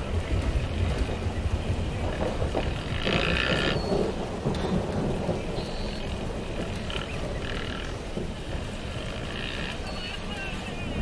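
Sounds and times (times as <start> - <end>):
distant dirt bike engines revving: 0.0 - 11.0
steady low rumble: 0.0 - 11.0.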